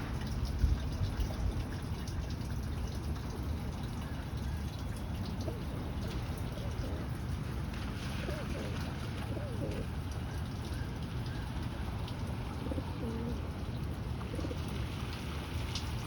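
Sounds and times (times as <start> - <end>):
rain dripping and trickling: 0.0 - 16.0.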